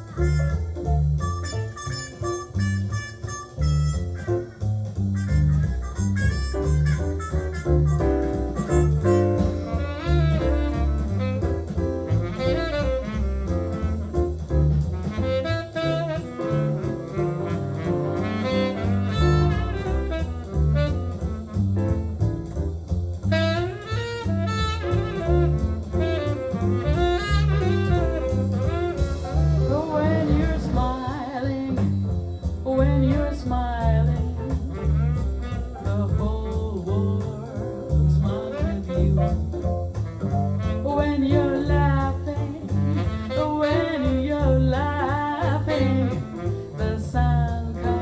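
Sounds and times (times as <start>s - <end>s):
horn lead: 0.0s - 22.2s, 23.3s - 31.9s, 33.9s - 37.6s, 38.4s - 48.0s
jazz from a vinyl record: 0.0s - 48.0s
walking double bass: 0.0s - 48.0s.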